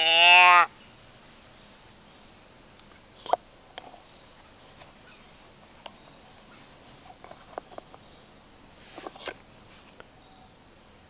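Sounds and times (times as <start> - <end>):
quiet steady hiss: 0.0 - 11.0.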